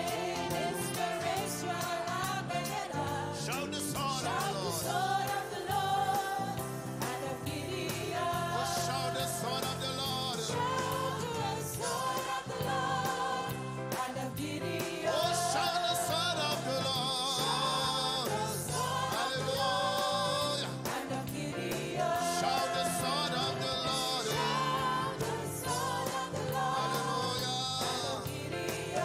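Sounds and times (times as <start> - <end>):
gospel choir singing: 0.0 - 29.0.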